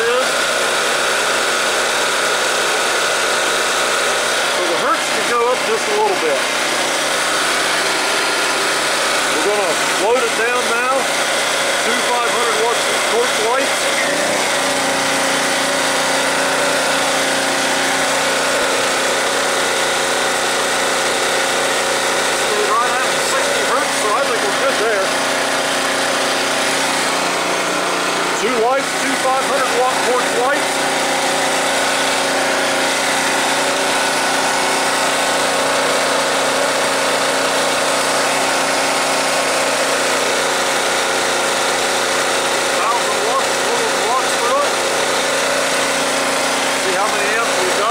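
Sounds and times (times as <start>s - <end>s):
portable generator engine running: 0.0s - 47.9s.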